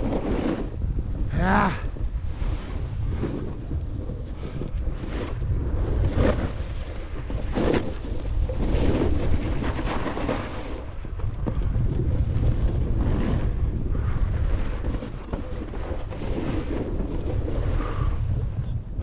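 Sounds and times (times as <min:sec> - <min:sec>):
snowboard scraping snow: 0:00.0 - 0:19.0
wind buffeting microphone: 0:00.0 - 0:19.0.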